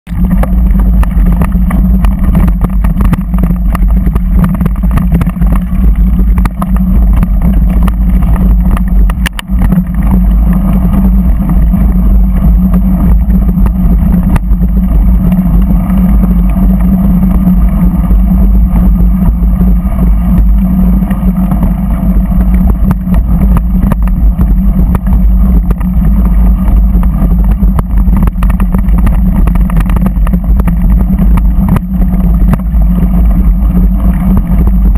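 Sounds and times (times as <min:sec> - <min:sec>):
vehicle engine drone: 0:00.0 - 0:34.9
wind rumble on microphone: 0:00.0 - 0:34.9
gravel clicking under tyres: 0:00.1 - 0:34.9.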